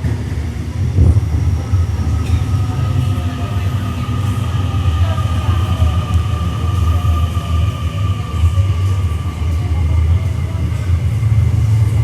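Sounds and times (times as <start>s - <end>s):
train high whine: 0.0s - 12.0s
train low rumble: 0.0s - 12.0s.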